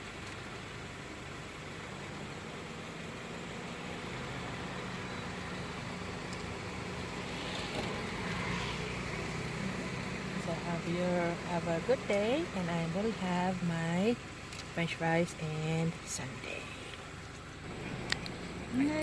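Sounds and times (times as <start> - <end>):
car engine idling: 0.0 - 19.0
car fan: 0.0 - 19.0.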